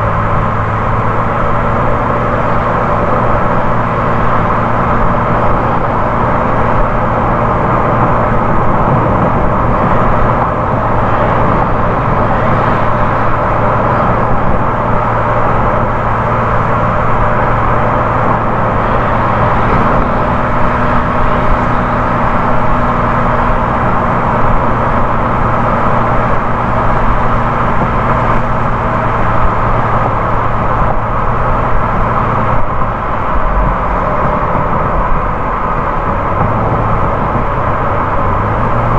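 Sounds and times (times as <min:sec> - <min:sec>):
low engine hum: 0:00.0 - 0:38.9
tyre and road noise: 0:00.0 - 0:38.9.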